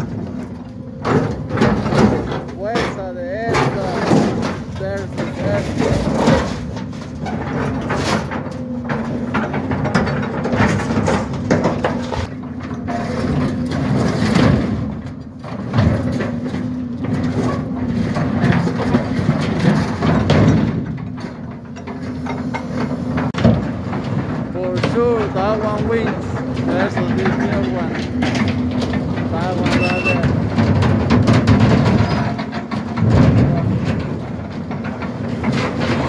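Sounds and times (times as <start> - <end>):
diesel engines and hydraulics humming: 0.0 - 36.0
metal crunching and scraping: 0.0 - 36.0.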